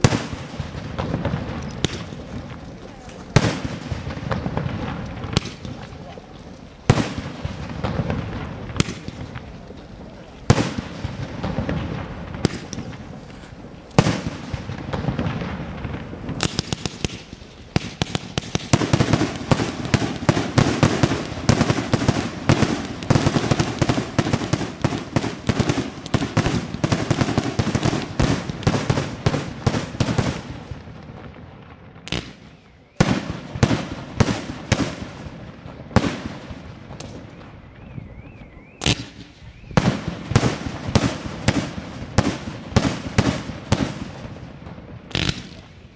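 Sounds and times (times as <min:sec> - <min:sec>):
firework launches and bangs: 0:00.0 - 0:06.1, 0:10.4 - 0:37.4, 0:38.8 - 0:45.9.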